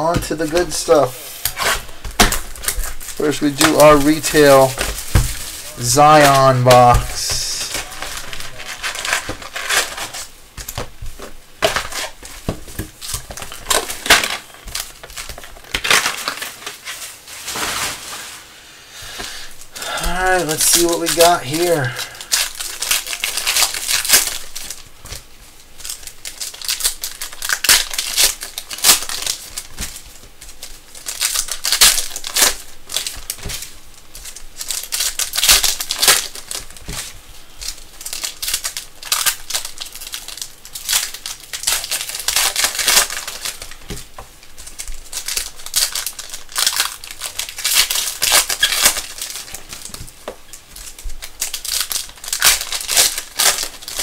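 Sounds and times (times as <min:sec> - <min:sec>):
foil wrappers tearing and crinkling: 0:00.0 - 0:54.0.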